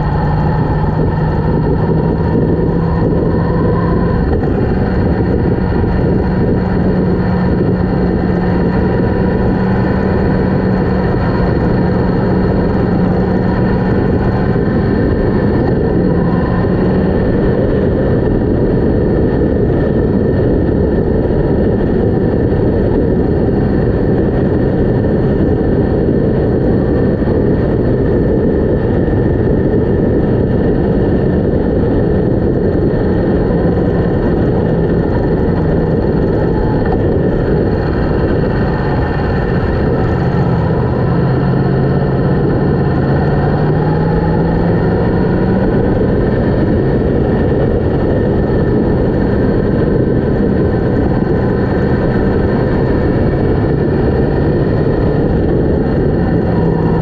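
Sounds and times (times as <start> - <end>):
loud wind rush: 0.0 - 57.0
motorcycle engine cruising: 0.0 - 57.0.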